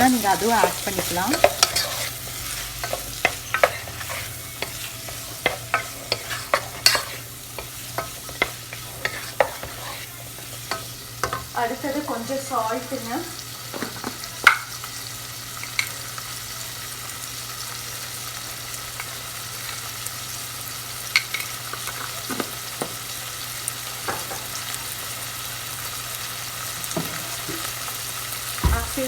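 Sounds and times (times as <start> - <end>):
vegetables sizzling in a pan: 0.0 - 29.0.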